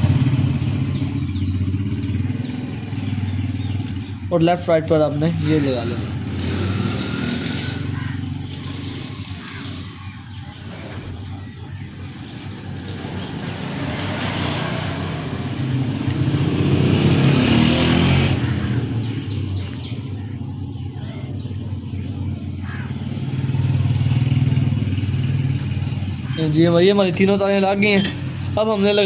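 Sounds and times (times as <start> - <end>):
passing road traffic: 0.0 - 29.0.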